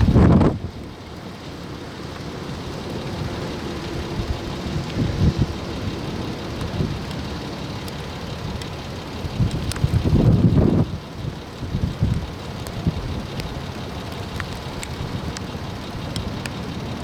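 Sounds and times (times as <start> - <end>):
wind blowing across microphone: 0.0 - 1.1, 3.2 - 17.0.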